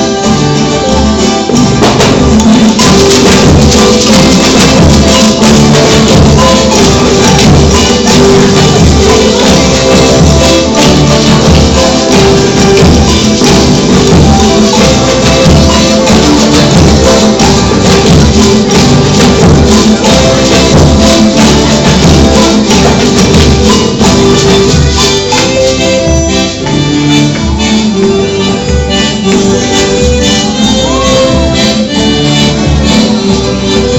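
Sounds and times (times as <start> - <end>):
shaken rattling percussion: 0.0 - 32.2
group playing music: 0.0 - 33.9.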